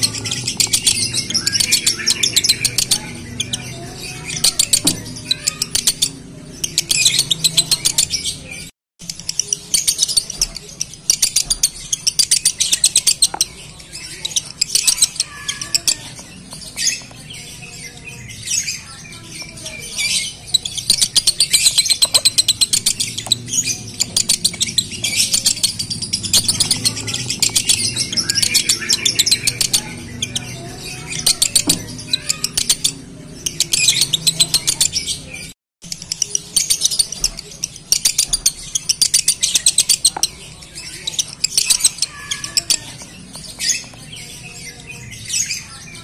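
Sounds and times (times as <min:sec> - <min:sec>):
lovebird chattering song: 0:00.0 - 0:46.0.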